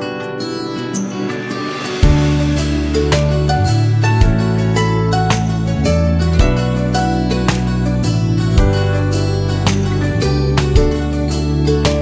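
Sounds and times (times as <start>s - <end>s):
plucked guitar: 0.0s - 12.0s
steady bass line: 2.0s - 12.0s.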